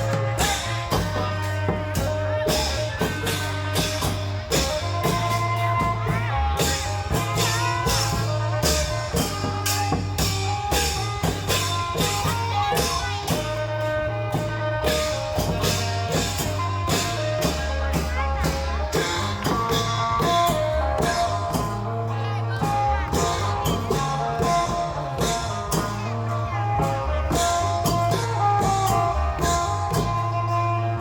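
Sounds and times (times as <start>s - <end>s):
bass line: 0.0s - 31.0s
drums beating: 0.0s - 31.0s.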